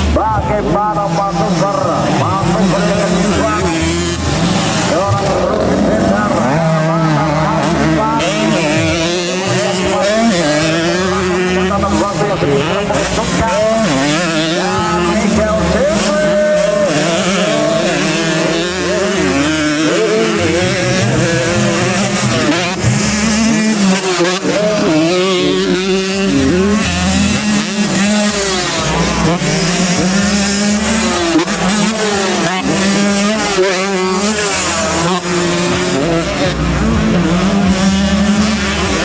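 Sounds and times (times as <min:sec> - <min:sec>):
racing motorcycle engines revving: 0:00.0 - 0:39.0.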